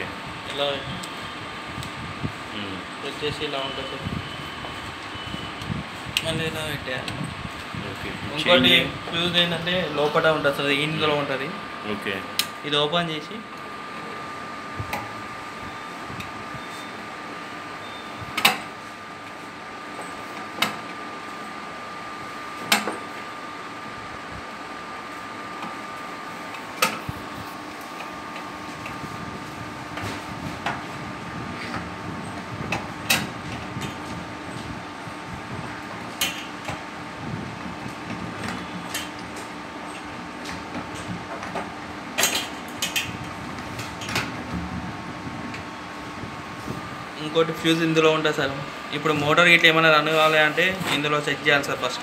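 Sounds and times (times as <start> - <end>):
steady hum with high tone: 0.0 - 52.0.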